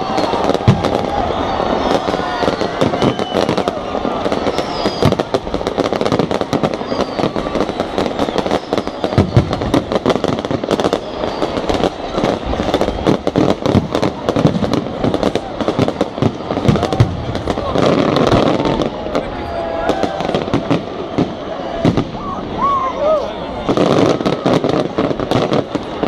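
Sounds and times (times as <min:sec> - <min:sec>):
faint firework whistles: 0:00.0 - 0:26.0
fireworks bangs and crackles: 0:00.0 - 0:26.0.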